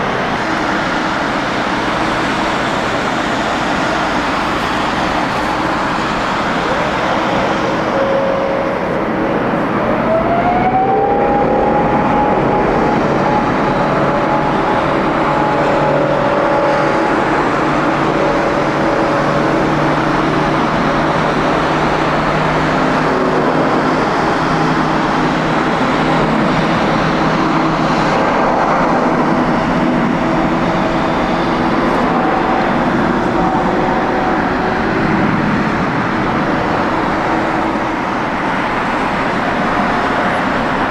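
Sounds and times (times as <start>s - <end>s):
jet engine whine: 0.0s - 40.9s
jet engines roaring: 0.0s - 40.9s.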